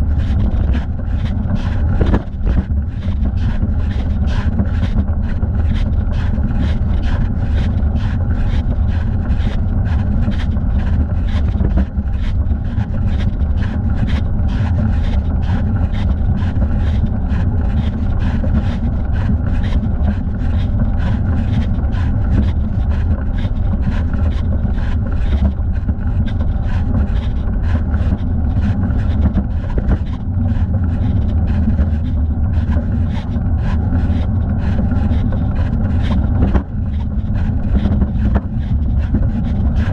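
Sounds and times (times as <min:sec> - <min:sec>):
wind on microphone and tyres rumble: 0:00.0 - 0:39.9.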